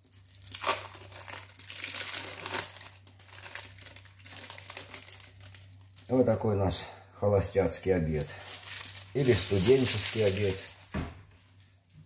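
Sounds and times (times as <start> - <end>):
plastic wrapper crinkling: 0.0 - 6.5, 8.0 - 12.0
low steady hum: 0.0 - 12.0.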